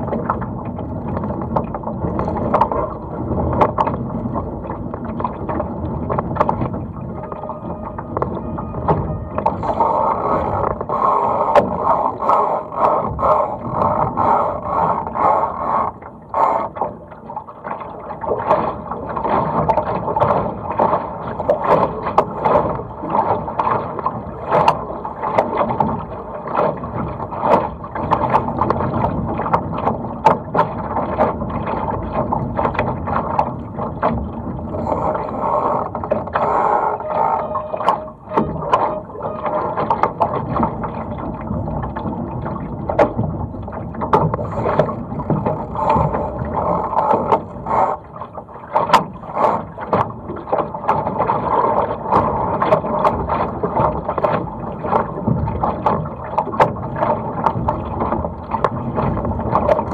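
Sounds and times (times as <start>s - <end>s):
splashes and knocks: 0.0s - 15.2s, 16.0s - 59.9s
water slapping against boat hull: 0.0s - 59.9s
wind: 0.0s - 59.9s.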